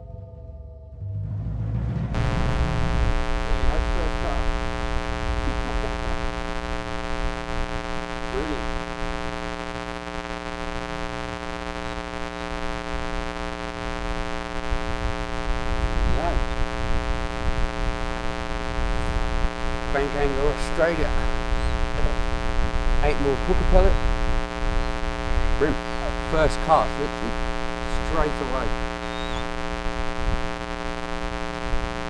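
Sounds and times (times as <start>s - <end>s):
steady hum of fixed tones: 0.0s - 32.0s.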